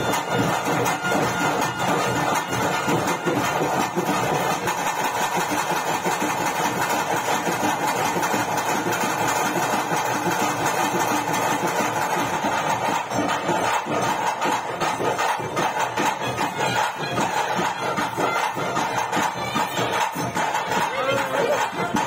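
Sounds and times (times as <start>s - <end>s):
rapid continuous drumming: 0.0s - 22.0s.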